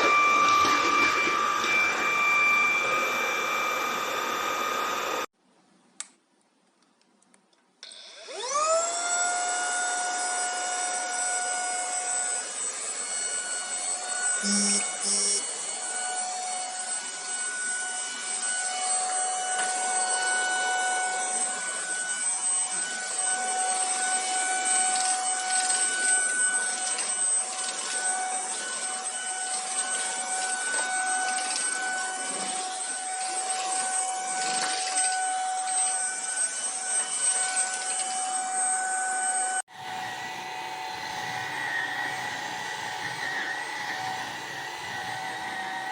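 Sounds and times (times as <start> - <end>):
vacuum cleaner running: 0.0 - 5.3, 8.0 - 45.9.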